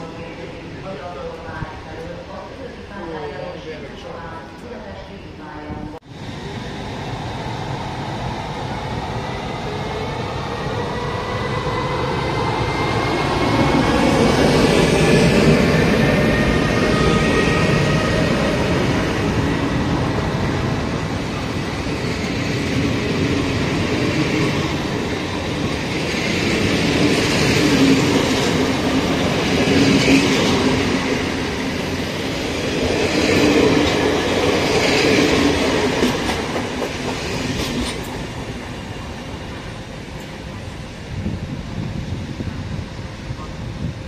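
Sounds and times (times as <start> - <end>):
train wheels on rails: 6.1 - 44.0.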